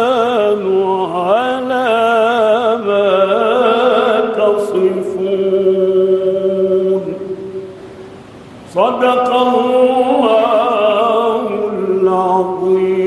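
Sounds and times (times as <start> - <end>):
man chanting melodically: 0.0 - 7.7, 8.7 - 13.0.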